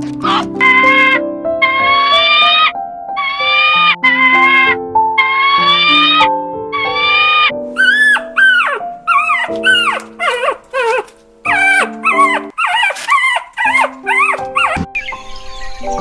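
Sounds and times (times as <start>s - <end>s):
background music: 0.0s - 16.0s
dog whimpering and yelping: 0.2s - 15.2s.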